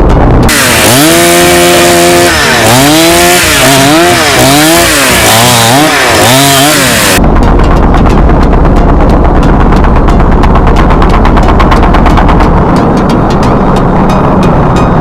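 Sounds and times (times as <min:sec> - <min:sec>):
chainsaw engine revving: 0:00.0 - 0:12.8.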